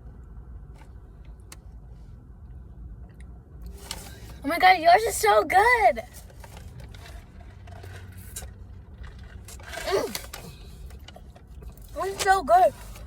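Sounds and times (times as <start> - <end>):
car interior hum: 0.0 - 13.0.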